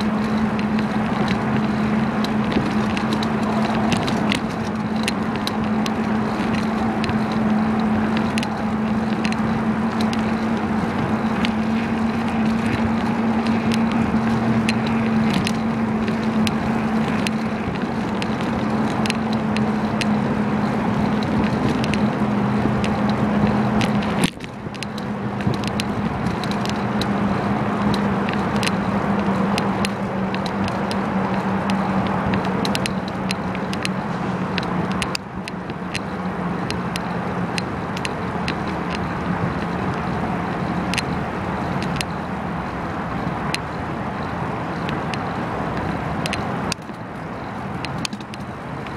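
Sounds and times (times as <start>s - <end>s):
small rattling clicks: 0.0s - 42.3s, 43.4s - 48.9s
bicycle tyre noise: 0.0s - 48.9s.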